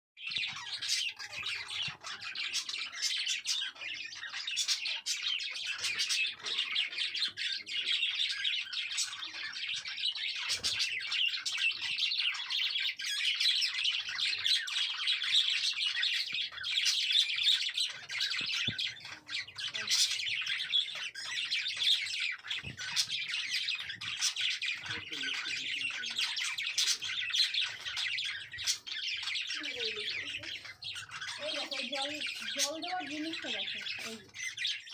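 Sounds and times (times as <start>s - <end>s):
budgerigars chattering: 0.2s - 34.9s.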